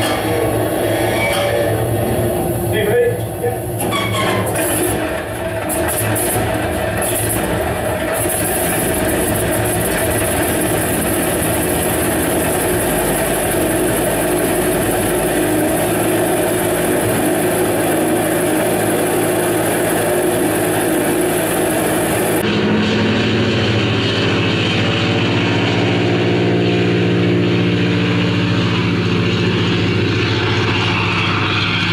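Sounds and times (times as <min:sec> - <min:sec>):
radial aircraft engine running: 0:00.0 - 0:31.9.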